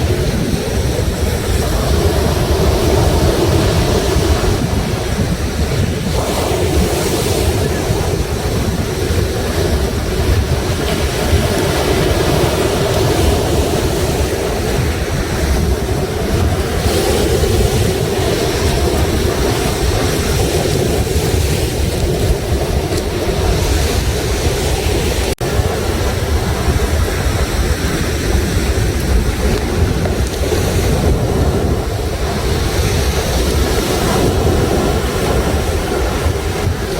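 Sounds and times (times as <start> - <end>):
sea waves breaking on shore: 0.0 - 36.9.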